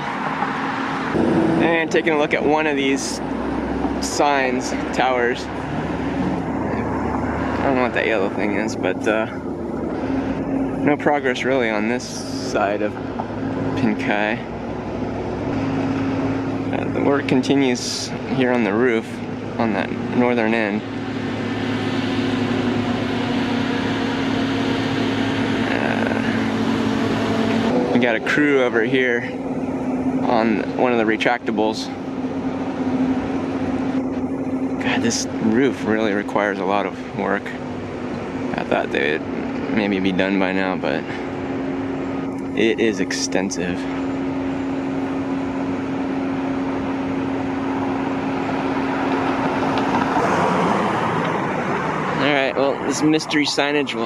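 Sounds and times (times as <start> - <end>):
vehicle hum with road noise: 0.0 - 54.0.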